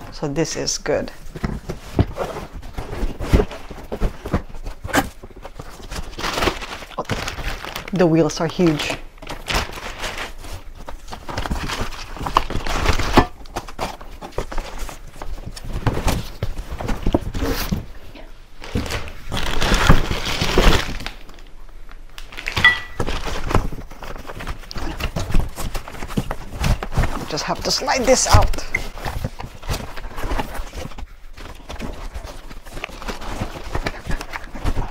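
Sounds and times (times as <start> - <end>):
plastic rustling and crinkling: 0.0 - 34.9
cardboard scraping: 1.2 - 7.9, 9.2 - 21.2, 22.3 - 34.9.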